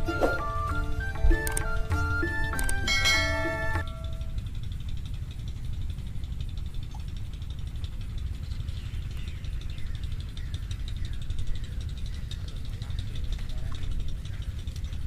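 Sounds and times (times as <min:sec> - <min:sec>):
rapid high ticking: 0:00.0 - 0:15.0.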